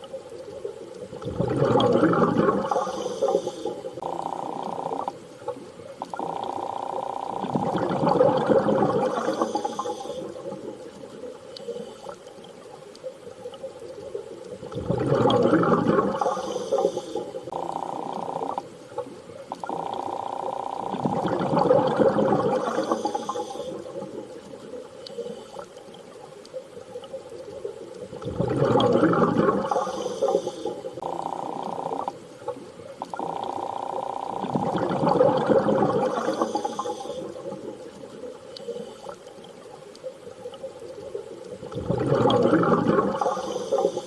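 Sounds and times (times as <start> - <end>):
muffled underwater water noise: 0.0 - 44.0.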